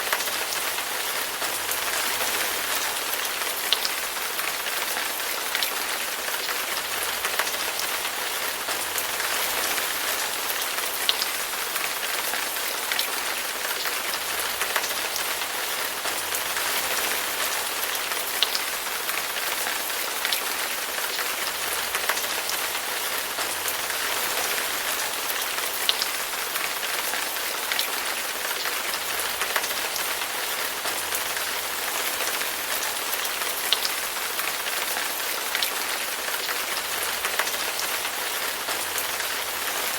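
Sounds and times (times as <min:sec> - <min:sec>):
steady rain hiss: 0:00.0 - 0:39.9
raindrops ticking: 0:00.1 - 0:39.9.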